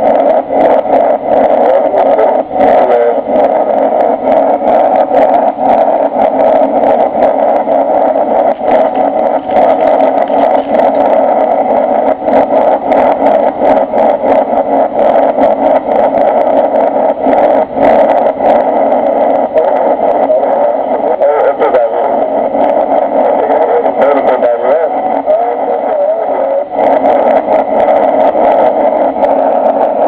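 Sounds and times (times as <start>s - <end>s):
roar of engines and airflow: 0.0s - 30.0s.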